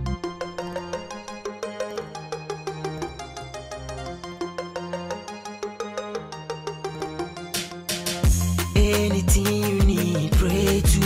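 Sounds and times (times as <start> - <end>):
instrumental music with beat: 0.0 - 11.0.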